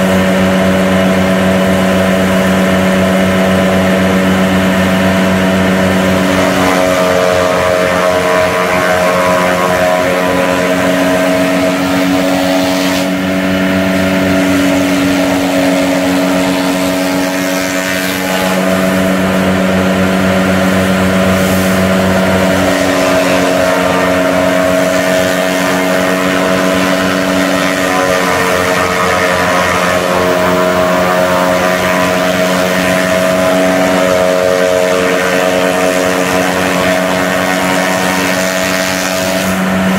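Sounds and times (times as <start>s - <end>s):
forage chopper: 0.0s - 39.9s
tractor diesel engine running: 0.0s - 39.9s.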